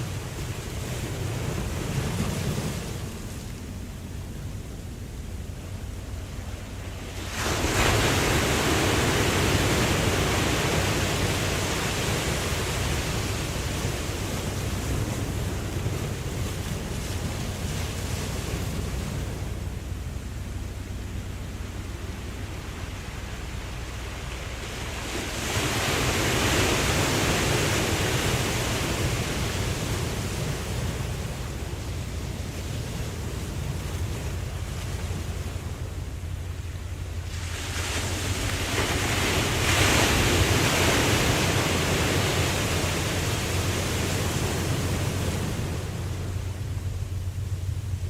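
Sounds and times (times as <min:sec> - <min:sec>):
ocean wave breaking: 0:00.0 - 0:48.0.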